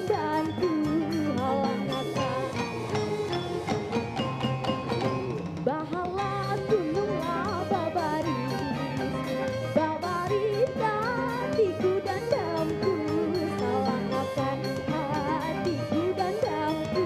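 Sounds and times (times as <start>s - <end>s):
folk band playing live: 0.0s - 17.0s.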